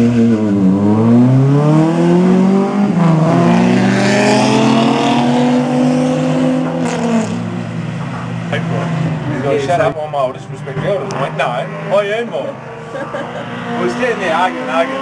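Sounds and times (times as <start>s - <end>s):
car engines accelerating: 0.0s - 15.0s.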